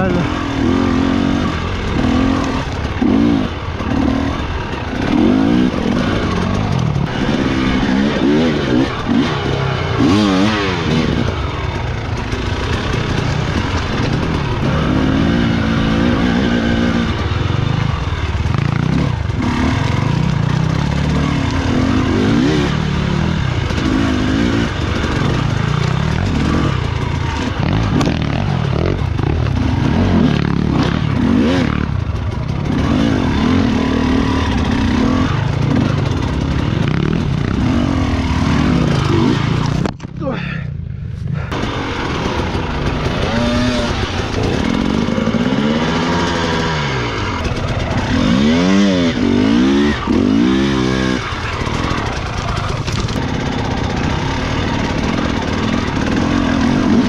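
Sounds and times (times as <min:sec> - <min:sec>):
dirt bike engine revving: 0:00.0 - 0:40.6, 0:41.2 - 0:57.0.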